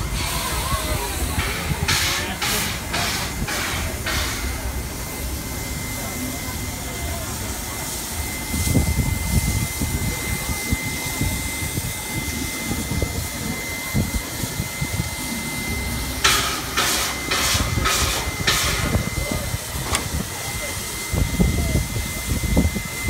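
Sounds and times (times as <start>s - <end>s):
steam locomotive chuffing: 0.0s - 23.0s
steam locomotive hissing: 0.0s - 23.0s.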